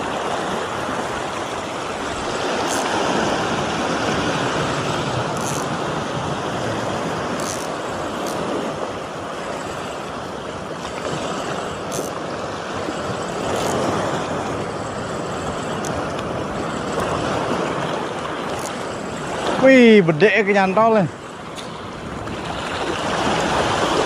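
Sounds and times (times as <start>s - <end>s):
small waves breaking on beach: 0.0s - 24.0s.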